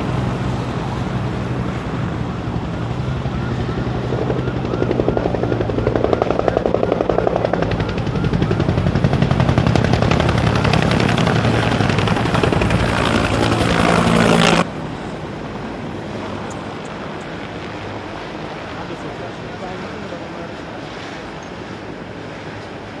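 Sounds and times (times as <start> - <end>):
engine drone: 0.0 - 23.0
helicopter rotor beating: 0.0 - 23.0
steady rushing noise: 0.0 - 23.0.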